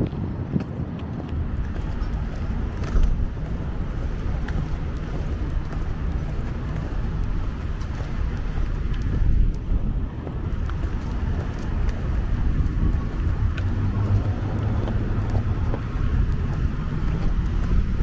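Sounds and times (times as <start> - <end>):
cars passing rumble: 0.0 - 18.0
footsteps on sidewalk: 0.0 - 18.0.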